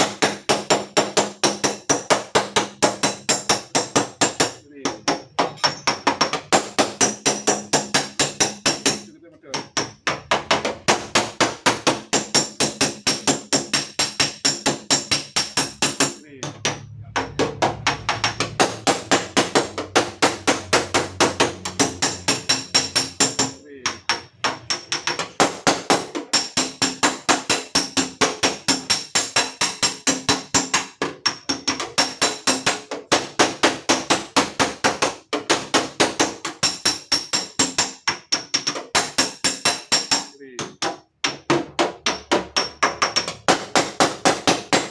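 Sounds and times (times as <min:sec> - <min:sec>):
rapid hammer blows on sheet steel: 0:00.0 - 0:40.4, 0:41.4 - 0:44.9.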